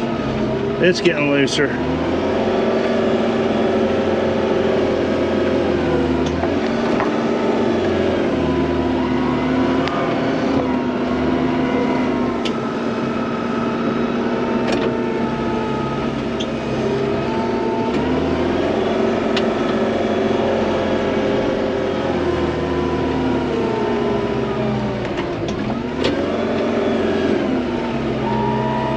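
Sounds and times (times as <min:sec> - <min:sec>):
vehicle engine under load: 0:00.0 - 0:28.9.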